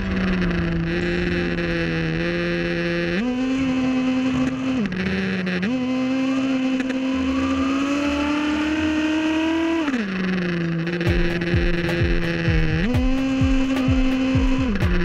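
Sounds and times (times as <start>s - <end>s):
rc buggy nitro engine revving: 0.0s - 15.0s.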